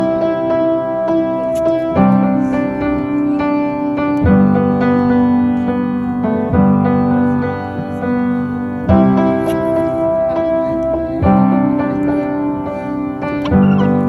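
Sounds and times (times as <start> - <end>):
sustained piano chords: 0.0 - 14.0.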